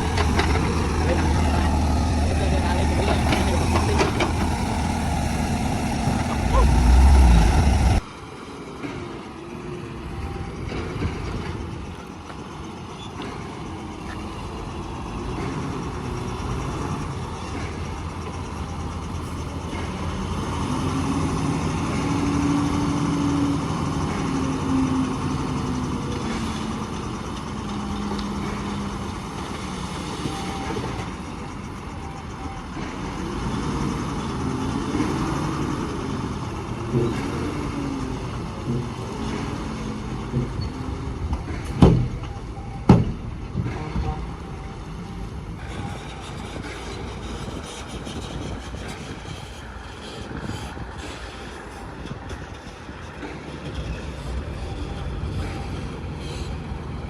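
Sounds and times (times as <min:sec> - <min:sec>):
construction machinery engines: 0:00.0 - 0:57.0.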